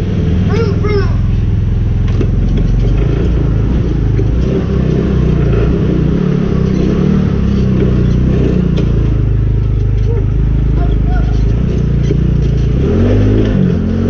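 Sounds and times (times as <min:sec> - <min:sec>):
go-kart engine revving: 0:00.0 - 0:14.0.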